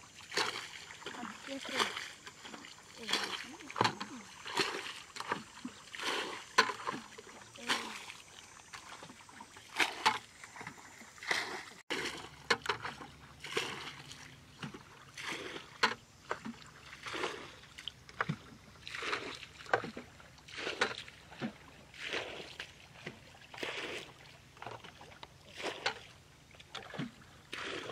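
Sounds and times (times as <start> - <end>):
water splashing from bucket: 0.0 - 27.9.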